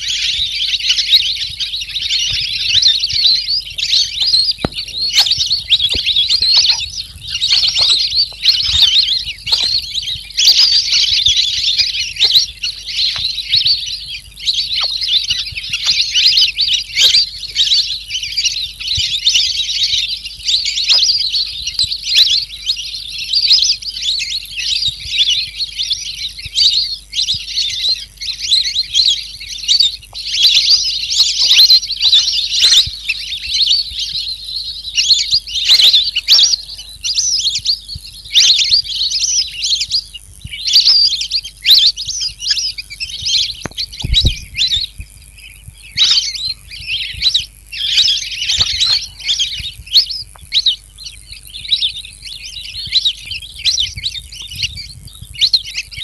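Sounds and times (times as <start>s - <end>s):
songbird chattering song: 0.0s - 56.0s.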